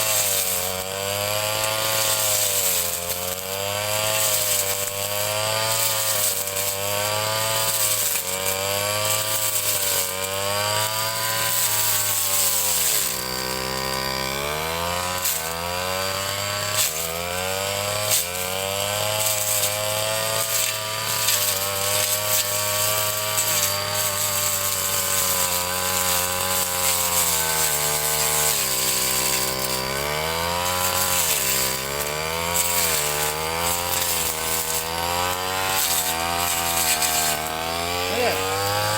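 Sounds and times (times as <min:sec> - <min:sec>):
brush cutter engine running hard: 0:00.0 - 0:38.9.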